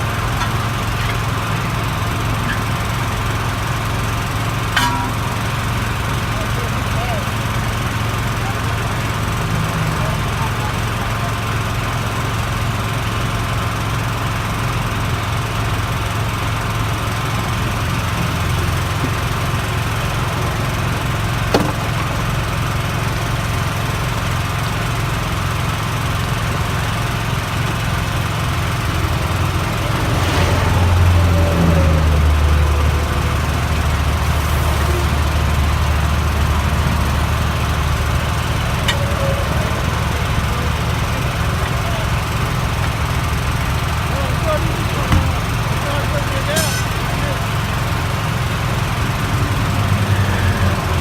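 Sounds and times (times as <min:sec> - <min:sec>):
engine running: 0:00.0 - 0:51.0.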